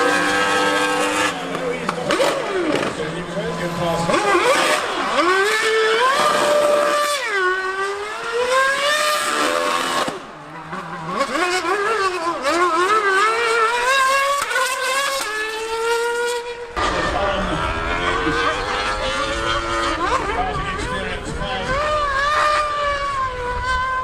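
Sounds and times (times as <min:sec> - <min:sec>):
high-revving racing engine: 0:00.0 - 0:24.0.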